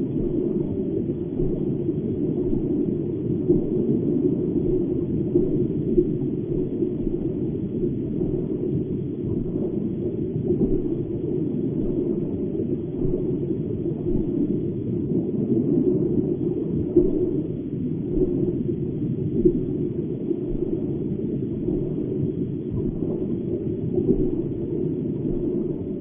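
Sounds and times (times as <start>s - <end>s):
low muffled rumble: 0.0s - 26.0s.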